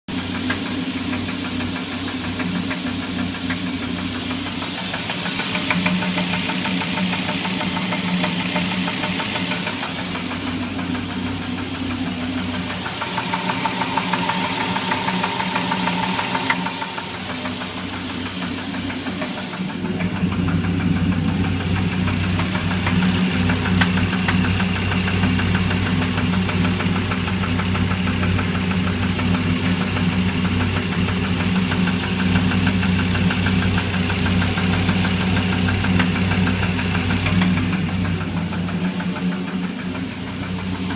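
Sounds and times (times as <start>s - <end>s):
car engine knocking: 0.1s - 40.9s.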